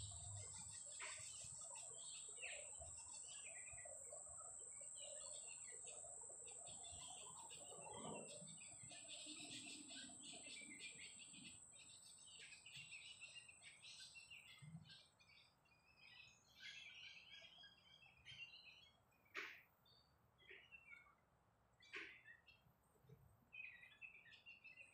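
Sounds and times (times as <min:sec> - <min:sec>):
birds chirping and calling: 0:00.0 - 0:19.6, 0:21.8 - 0:22.6.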